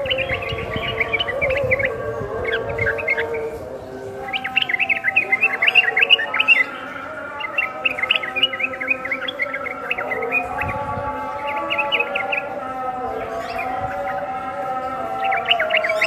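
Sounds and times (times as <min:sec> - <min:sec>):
bird chirping song: 0:00.0 - 0:16.0.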